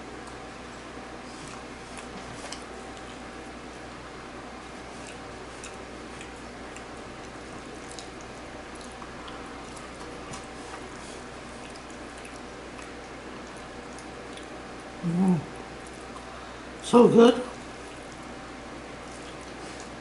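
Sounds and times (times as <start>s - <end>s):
person chewing: 0.1s - 16.4s.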